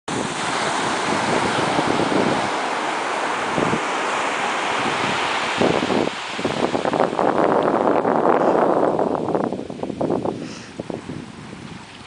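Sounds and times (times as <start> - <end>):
ocean surf roaring: 0.1 - 12.0
wind gusting on microphone: 0.1 - 12.0.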